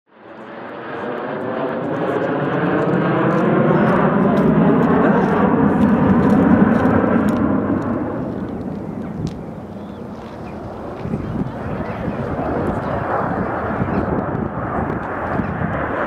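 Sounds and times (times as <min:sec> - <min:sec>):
aircraft flying overhead: 0:00.1 - 0:16.0.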